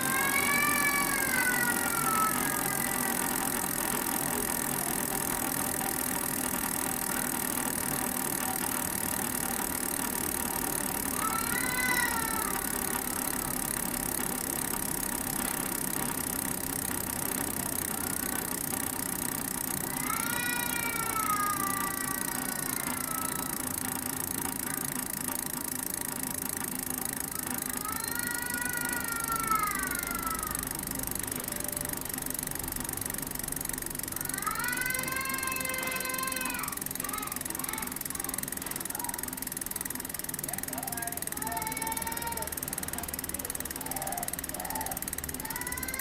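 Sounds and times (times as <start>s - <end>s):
bicycle freehub ratchet clicking: 0.0s - 46.0s.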